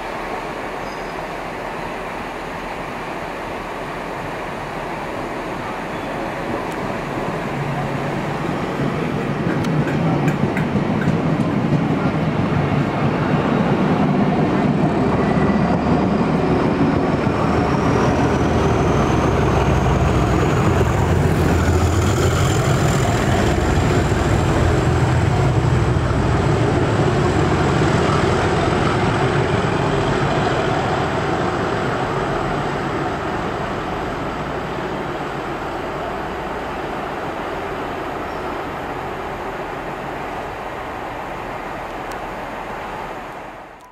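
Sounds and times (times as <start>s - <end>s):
diesel locomotive engine working hard: 0.0s - 43.9s
train wheels rumbling on rails: 0.0s - 43.9s.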